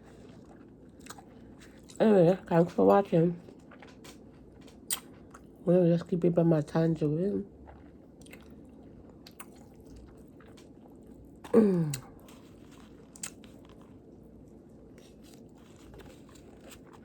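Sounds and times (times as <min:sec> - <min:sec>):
person chewing fruit: 0:00.0 - 0:05.7, 0:07.4 - 0:17.0.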